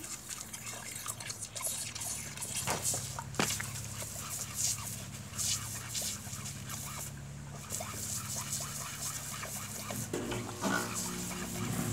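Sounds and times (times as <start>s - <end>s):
hose spray hissing and splashing: 0.0s - 11.9s.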